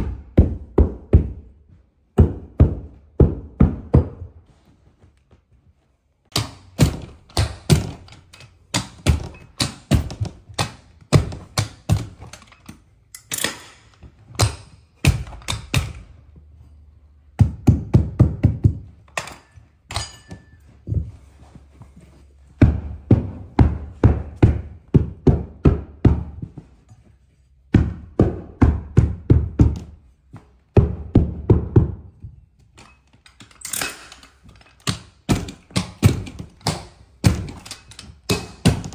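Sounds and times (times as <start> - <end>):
tools knocking carpet with thuds: 0.0 - 5.5, 6.3 - 12.9, 13.9 - 33.5, 34.4 - 38.9.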